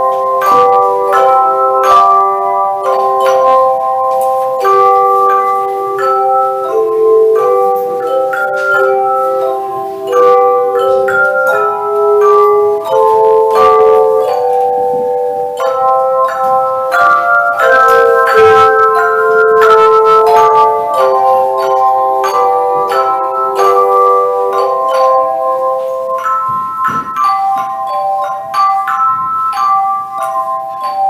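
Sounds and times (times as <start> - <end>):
tone chimes playing chords: 0.0 - 31.0.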